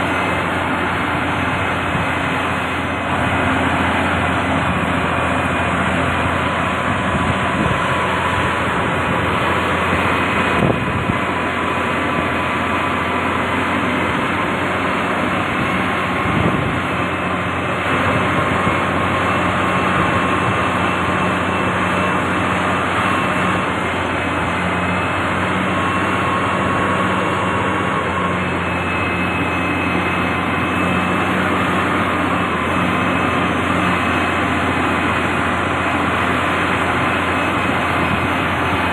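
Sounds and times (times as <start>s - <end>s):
constant high whine: 0.0s - 38.9s
diesel engine running: 0.0s - 38.9s.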